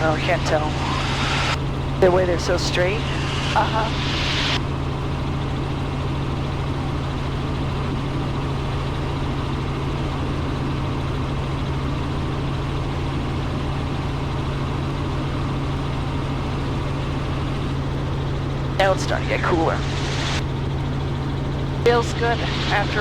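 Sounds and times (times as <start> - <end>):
helicopter engine and rotors drone: 0.0 - 23.0.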